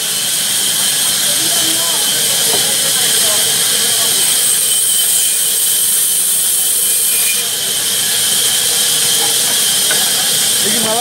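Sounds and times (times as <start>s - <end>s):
band saw cutting log: 0.0s - 11.0s.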